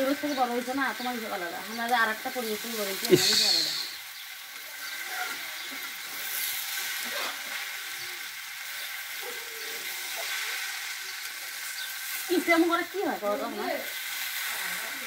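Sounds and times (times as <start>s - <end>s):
greens sizzling in a wok: 0.0s - 15.0s.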